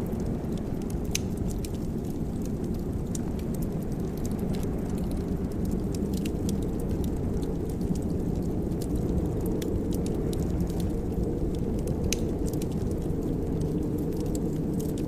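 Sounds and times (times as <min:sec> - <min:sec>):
low rumble of flames: 0:00.0 - 0:15.0
wood fire popping: 0:00.0 - 0:15.0.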